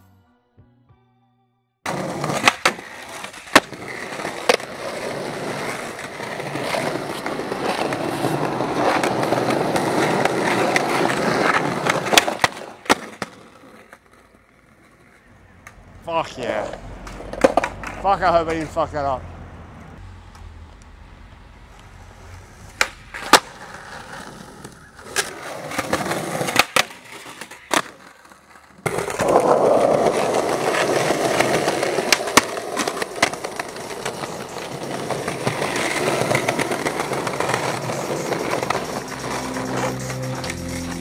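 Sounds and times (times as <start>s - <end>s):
skateboard wheels rolling on concrete: 1.8s - 41.0s
skateboard clacking on ground: 1.9s - 18.8s, 22.6s - 41.0s.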